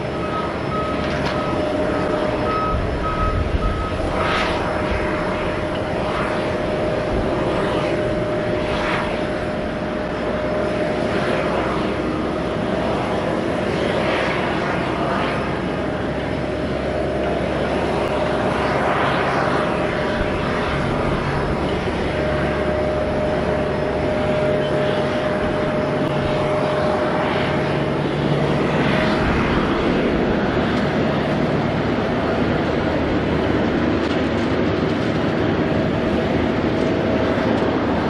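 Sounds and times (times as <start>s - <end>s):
jet engine whine and rumble: 0.0s - 38.0s.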